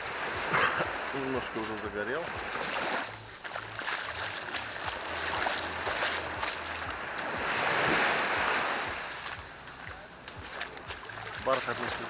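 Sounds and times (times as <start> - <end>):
sea wave breaking on beach: 0.0 - 9.7.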